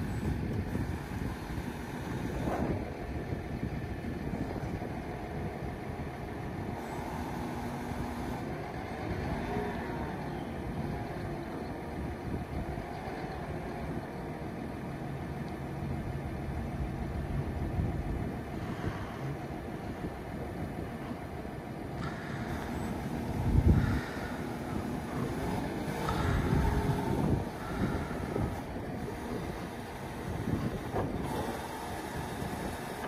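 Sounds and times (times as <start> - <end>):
hydraulic whine: 0.0 - 33.0
wheel loader diesel engine: 0.0 - 33.0.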